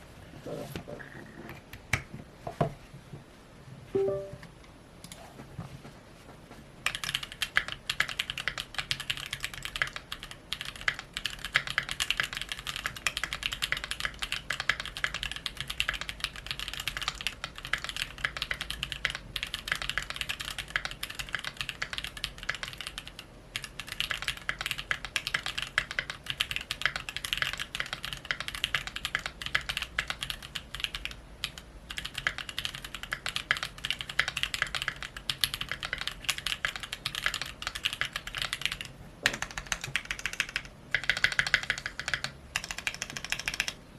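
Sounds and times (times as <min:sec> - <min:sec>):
mechanical keyboard typing: 0:04.0 - 0:04.4, 0:06.8 - 0:43.8.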